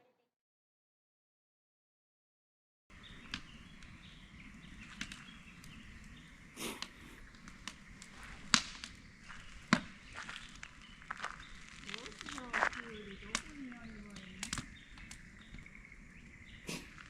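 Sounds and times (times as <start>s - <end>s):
outdoor background hiss: 2.9s - 17.0s
rustle: 2.9s - 17.0s.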